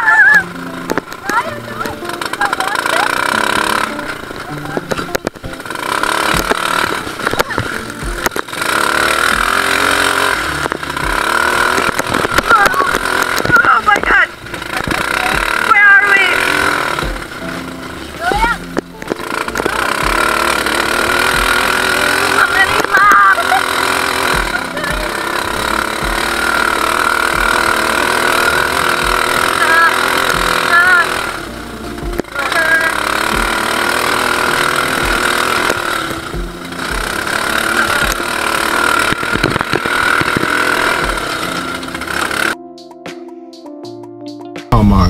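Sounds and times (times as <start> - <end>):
buggy engine pulling hard: 0.0 - 42.6.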